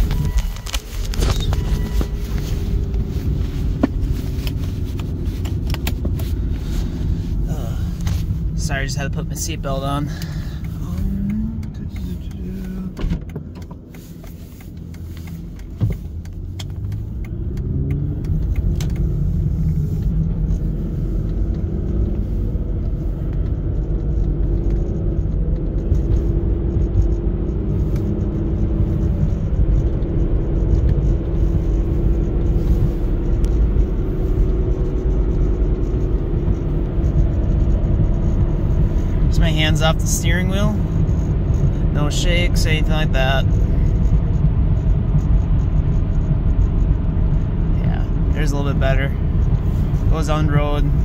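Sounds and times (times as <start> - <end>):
car engine inside cabin: 0.0 - 51.0
road noise: 0.0 - 51.0.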